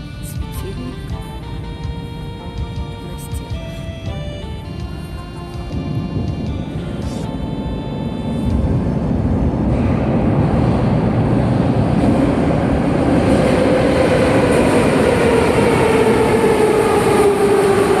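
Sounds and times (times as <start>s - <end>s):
falling whine: 0.0s - 18.0s
metro train rumbling: 0.0s - 18.0s.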